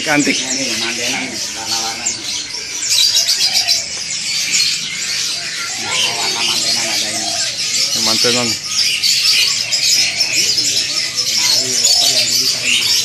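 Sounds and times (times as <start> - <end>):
indistinct voices: 0.0 - 13.0
songbirds chirping and twittering: 0.0 - 13.0.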